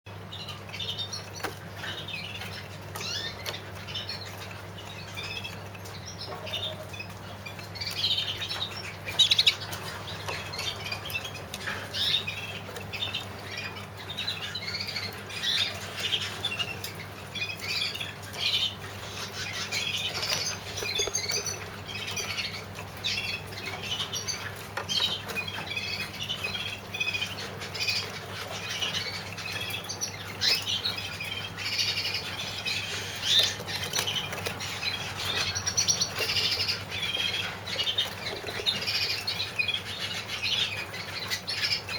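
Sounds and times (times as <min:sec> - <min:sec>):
canaries chirping: 0:00.1 - 0:41.9.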